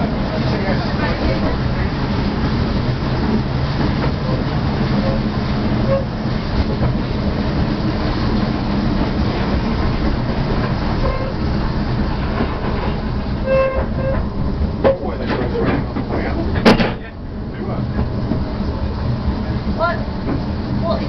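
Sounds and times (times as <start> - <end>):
locomotive engines droning: 0.0 - 21.0
train wheels rumbling on rails: 0.0 - 21.0.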